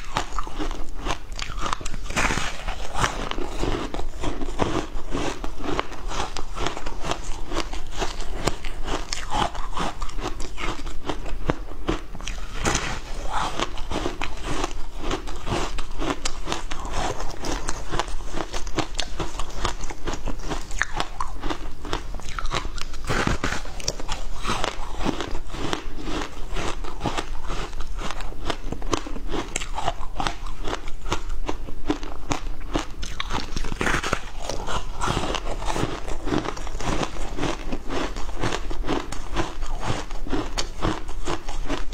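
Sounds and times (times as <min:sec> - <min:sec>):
ice crunching between teeth: 0:00.0 - 0:41.9.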